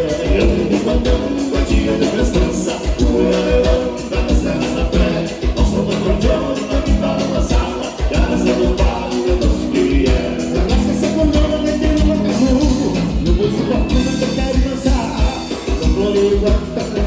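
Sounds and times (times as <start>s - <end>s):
accordion dance music: 0.0s - 17.0s
bass drum beat: 0.0s - 17.0s.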